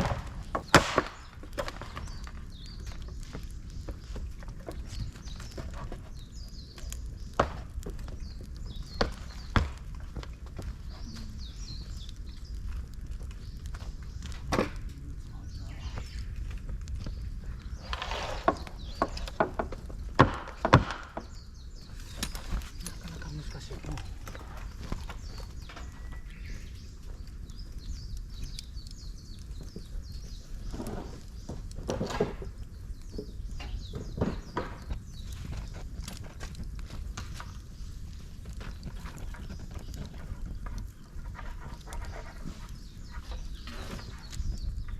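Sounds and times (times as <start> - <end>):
bamboo crackling in fire: 0.0 - 44.9
birds chirping: 0.0 - 44.9.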